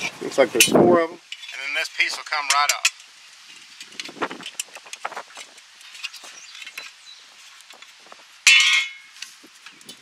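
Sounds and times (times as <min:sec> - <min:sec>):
light rustling of wires: 0:01.2 - 0:10.0.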